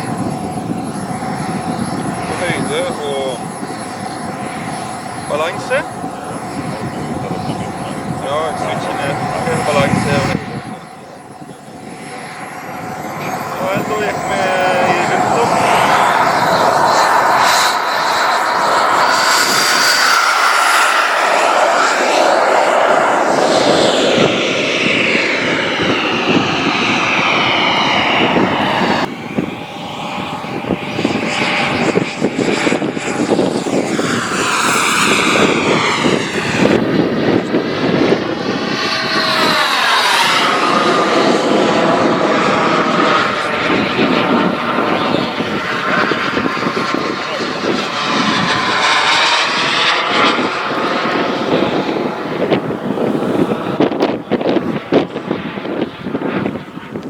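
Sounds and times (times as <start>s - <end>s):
model jet engine whine: 0.0s - 57.0s.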